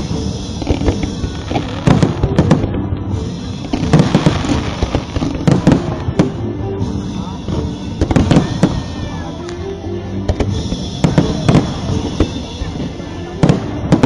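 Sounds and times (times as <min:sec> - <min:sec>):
fireworks bursting: 0:00.0 - 0:09.6, 0:10.2 - 0:14.0
music playing: 0:00.0 - 0:14.0.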